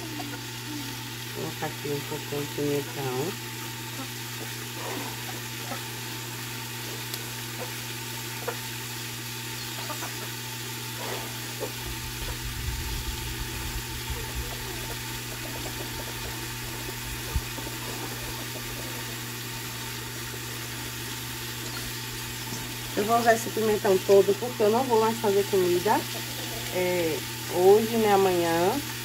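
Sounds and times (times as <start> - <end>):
low mechanical hum: 0.0 - 29.0
meat sizzling in a pot: 0.0 - 29.0.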